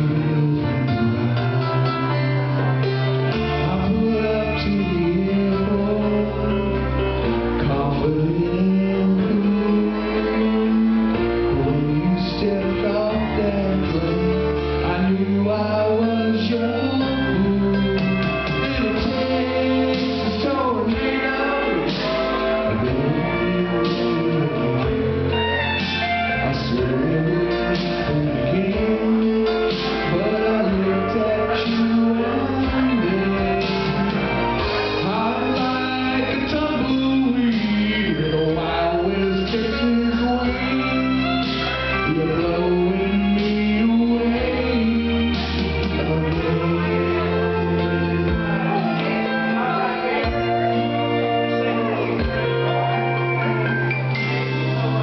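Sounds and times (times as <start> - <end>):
country band playing live: 0.0 - 55.0
guitar: 0.0 - 55.0
steady bass line: 0.0 - 55.0.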